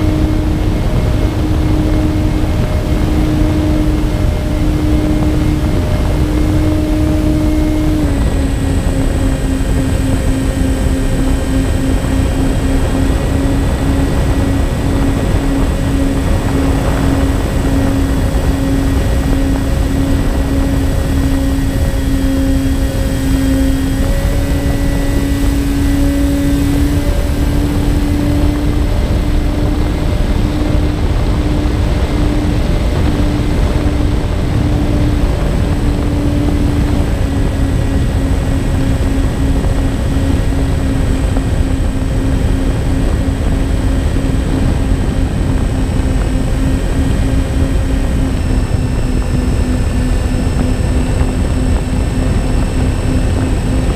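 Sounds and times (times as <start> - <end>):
propeller hum: 0.0 - 53.9
wind rushing over microphone: 0.0 - 53.9.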